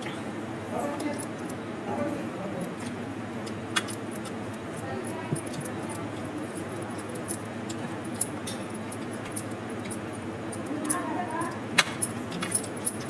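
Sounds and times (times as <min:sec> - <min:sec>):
steady background hum: 0:00.0 - 0:13.0
eating clicks and clinks: 0:00.8 - 0:13.0.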